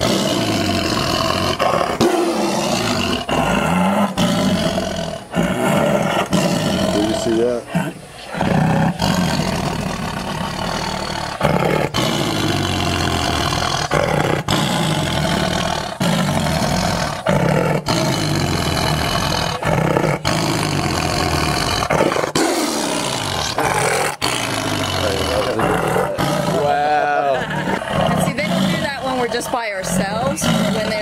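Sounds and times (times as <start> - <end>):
tigers growling and roaring: 0.0 - 31.0.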